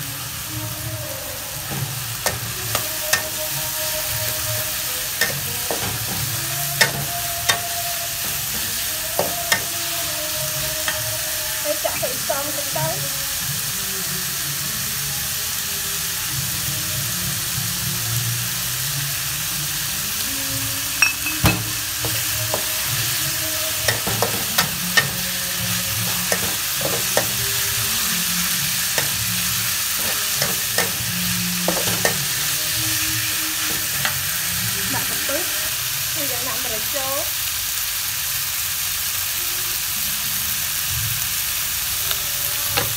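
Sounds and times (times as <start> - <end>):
meat sizzling in a wok: 0.0 - 42.9.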